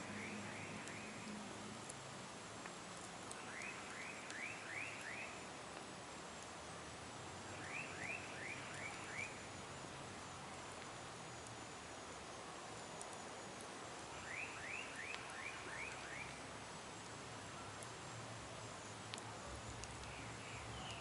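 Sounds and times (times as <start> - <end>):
campfire hissing and crackling: 0.0 - 21.0.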